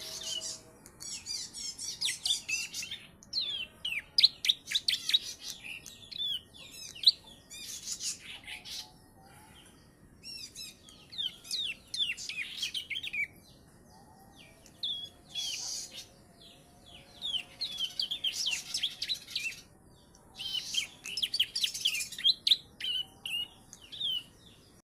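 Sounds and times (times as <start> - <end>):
bird chirping trills: 0.0 - 24.8.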